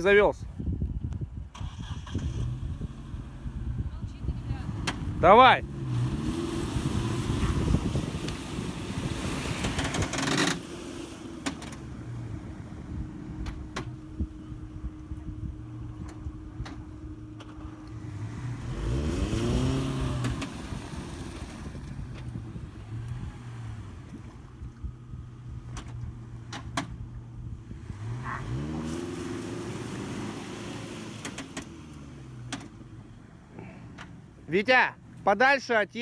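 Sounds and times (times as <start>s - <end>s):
car engine revving: 1.5s - 34.5s.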